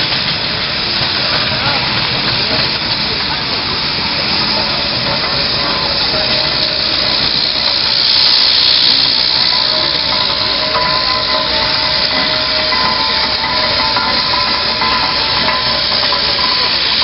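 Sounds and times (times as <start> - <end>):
loud hiss of steam: 0.0 - 17.0.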